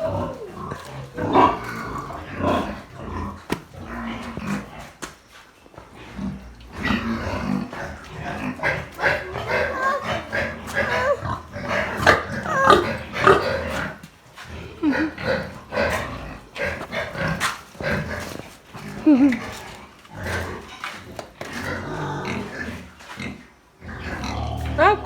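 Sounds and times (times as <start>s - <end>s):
farm animals grunting and squealing: 0.0s - 25.0s.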